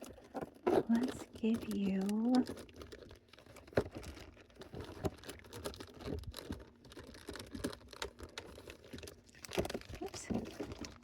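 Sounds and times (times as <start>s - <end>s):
soft rustling of packaging: 0.0s - 11.0s.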